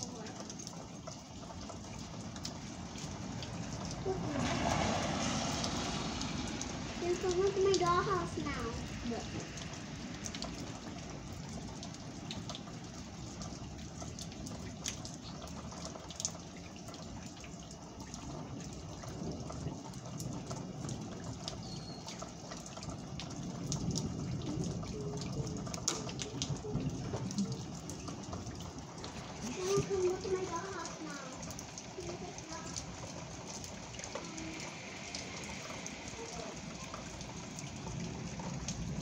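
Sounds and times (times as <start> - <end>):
sharp drip ticks: 0.0 - 39.0
steady rain falling: 0.0 - 39.0.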